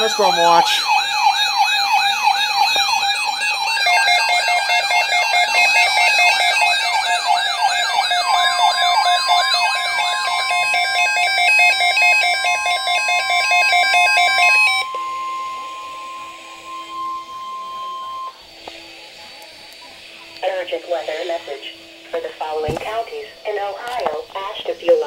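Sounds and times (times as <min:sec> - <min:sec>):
electronic siren sweeping up and down: 0:00.0 - 0:23.8
steady single-pitch alert tone: 0:00.0 - 0:23.8
two-note hi-lo alternating tone: 0:00.0 - 0:23.9.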